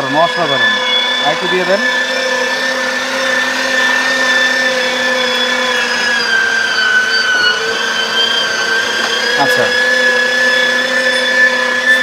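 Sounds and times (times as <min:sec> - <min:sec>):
meat grinder motor whining: 0:00.0 - 0:12.0.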